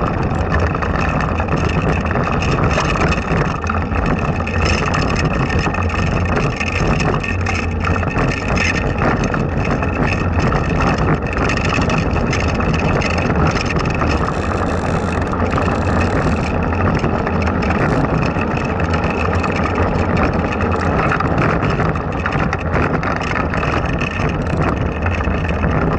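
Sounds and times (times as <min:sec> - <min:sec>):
wheels rumbling on asphalt: 0:00.0 - 0:25.9.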